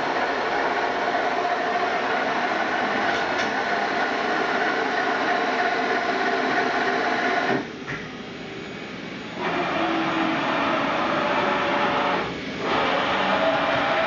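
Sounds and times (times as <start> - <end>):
machining center whirring: 0.0 - 14.0.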